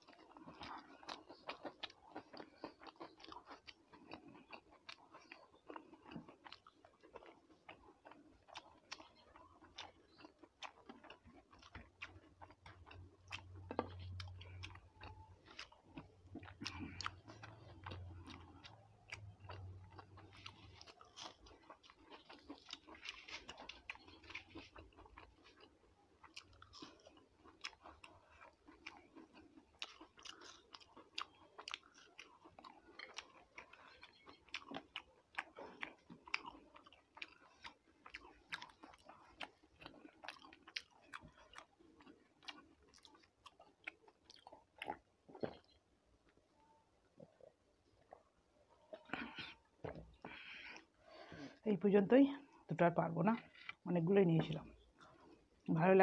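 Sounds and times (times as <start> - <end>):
person chewing wetly: 0.0 - 51.7, 52.5 - 55.9.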